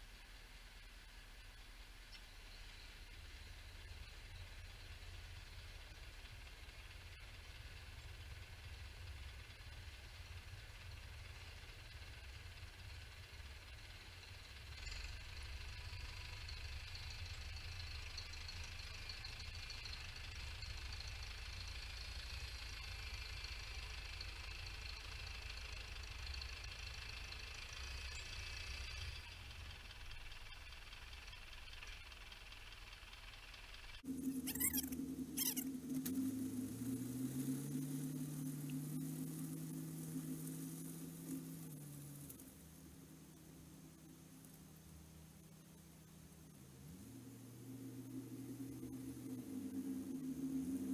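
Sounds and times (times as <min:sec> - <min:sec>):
tractor diesel engine rumbling: 0:00.1 - 0:50.9.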